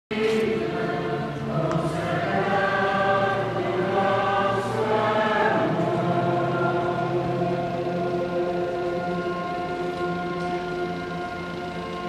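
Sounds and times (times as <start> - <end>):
choir singing a hymn: 0.1 - 12.0.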